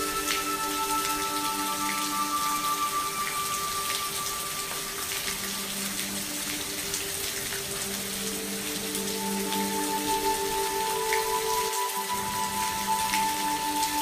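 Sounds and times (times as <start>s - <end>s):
slow sustained music notes: 0.0s - 14.0s
steady rain falling: 0.0s - 14.0s
water drips: 0.0s - 14.0s.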